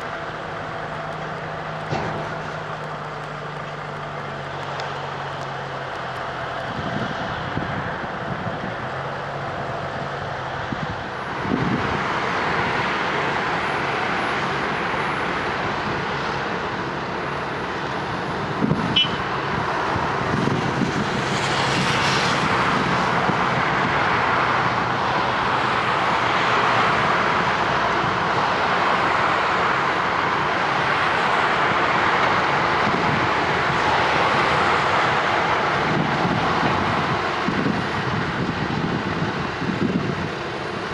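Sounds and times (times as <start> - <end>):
diesel engine drone: 0.0 - 40.9.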